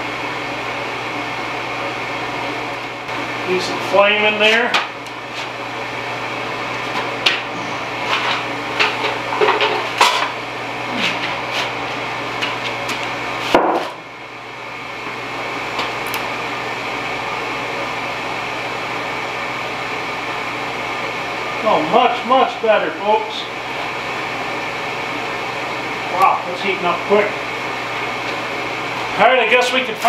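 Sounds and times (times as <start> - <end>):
stove blower hum: 0.0 - 30.0.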